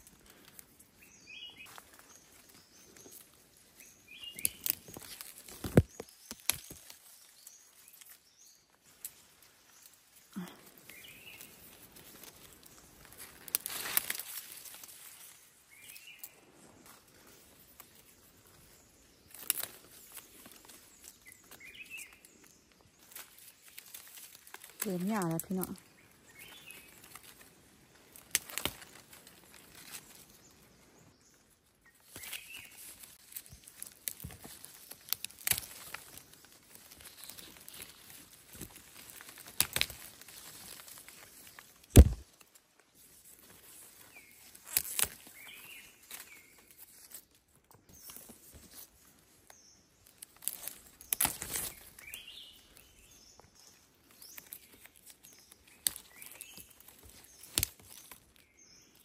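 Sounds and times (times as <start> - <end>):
birds chirping faintly: 0.0 - 59.0
leaves rustling and crackling: 0.0 - 59.0.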